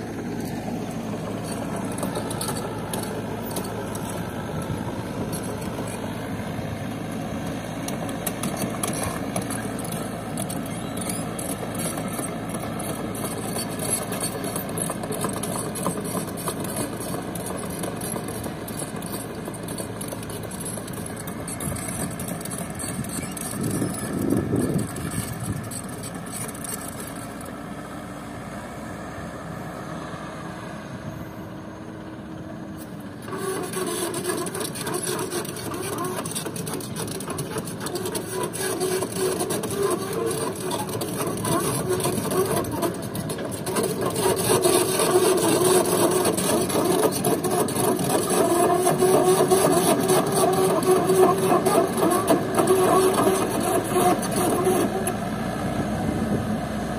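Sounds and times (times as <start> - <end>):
rasping mechanical noise: 0.0 - 28.2, 32.3 - 56.4
excavator diesel engine: 0.0 - 56.9.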